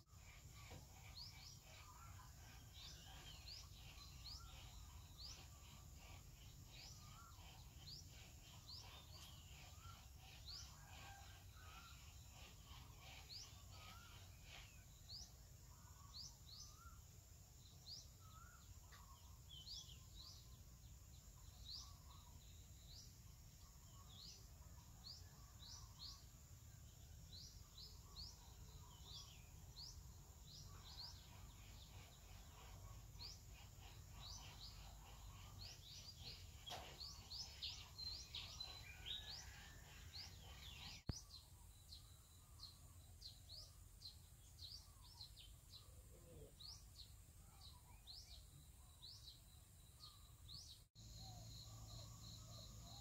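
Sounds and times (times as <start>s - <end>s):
bird chirping: 0.0s - 53.0s.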